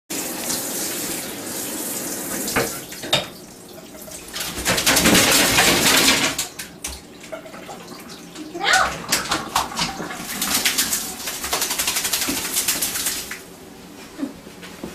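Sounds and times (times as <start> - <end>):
shower sprayer running water: 0.1 - 13.8.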